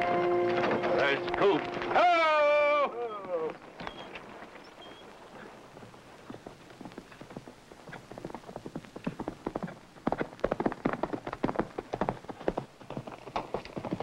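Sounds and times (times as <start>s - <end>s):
horse galloping hoofbeats: 0.0s - 14.0s.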